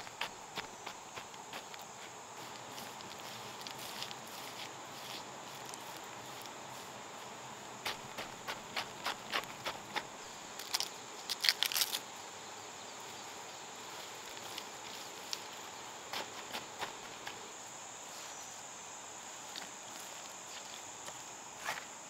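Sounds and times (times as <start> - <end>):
stony soil crunching and scraping: 0.0 - 12.1, 13.0 - 18.6, 19.4 - 21.9
high insect drone: 0.0 - 22.0.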